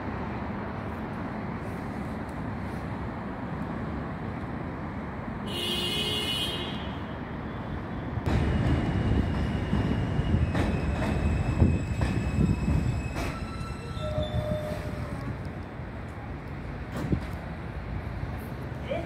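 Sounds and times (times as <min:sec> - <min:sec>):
outdoor station rumble: 0:00.0 - 0:19.0
subway train rumble and whine: 0:00.0 - 0:19.0.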